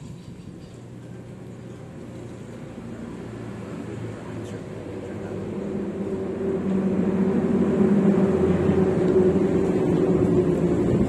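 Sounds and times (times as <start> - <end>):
motor vehicle engine humming: 0.0 - 11.0.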